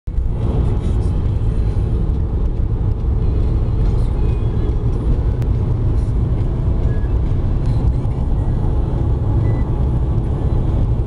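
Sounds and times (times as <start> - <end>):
car road and engine rumble: 0.1 - 11.0.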